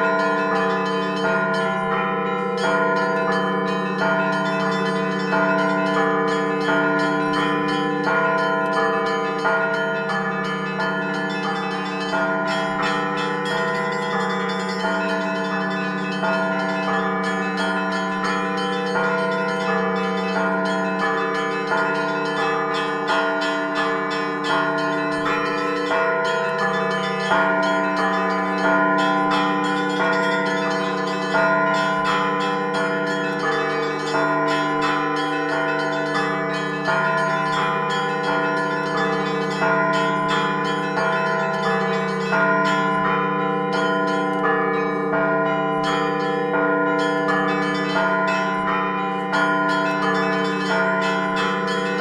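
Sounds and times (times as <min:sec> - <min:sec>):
deep bell tones: 0:00.0 - 0:52.0
small bells ringing fast: 0:00.0 - 0:52.0.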